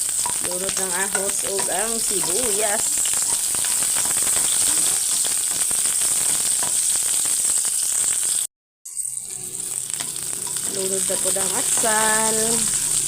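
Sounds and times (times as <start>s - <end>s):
garlic and onion sizzling in oil: 0.0s - 13.0s.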